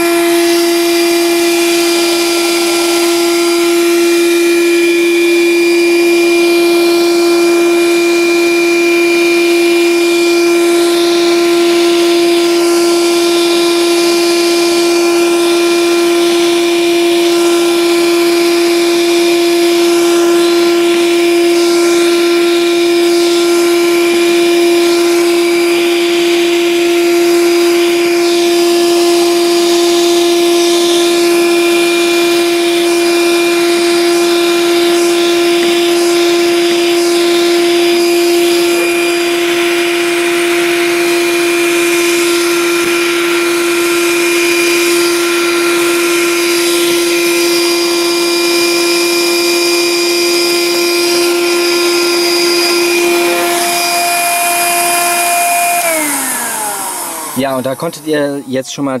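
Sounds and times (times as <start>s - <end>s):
car vacuum cleaner running: 0.0s - 59.0s.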